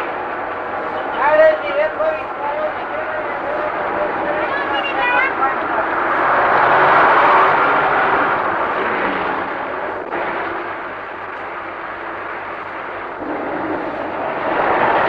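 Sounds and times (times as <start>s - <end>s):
city street traffic rumble: 0.0s - 15.0s.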